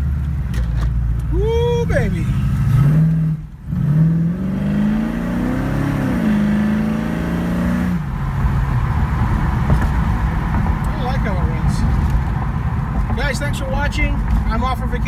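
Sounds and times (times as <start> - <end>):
engine low rumble: 0.0 - 15.0
car engine revving: 1.2 - 13.3.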